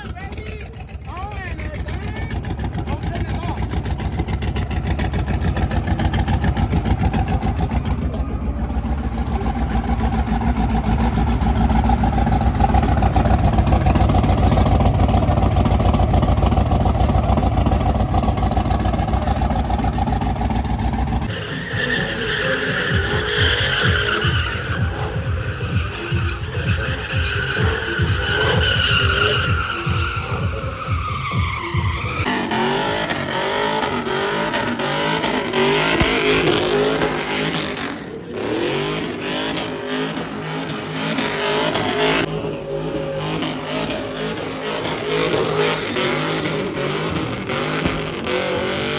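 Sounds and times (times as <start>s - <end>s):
car engine at high revs: 0.0s - 48.9s
tyres spinning and squealing: 0.0s - 48.9s.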